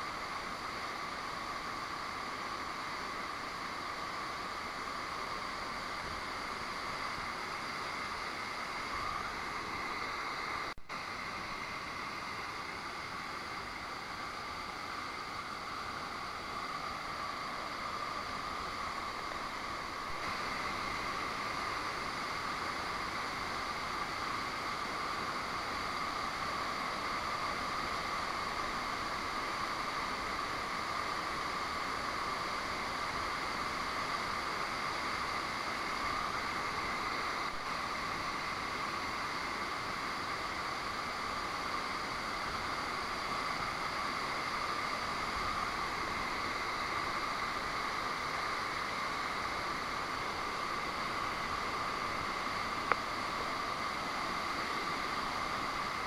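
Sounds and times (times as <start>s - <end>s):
waterfall rushing: 0.1s - 56.0s.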